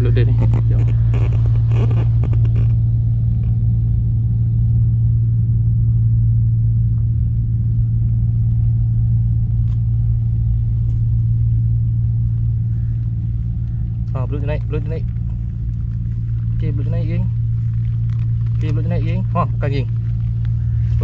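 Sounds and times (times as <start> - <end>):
low hum over a rumble: 0.0 - 21.0.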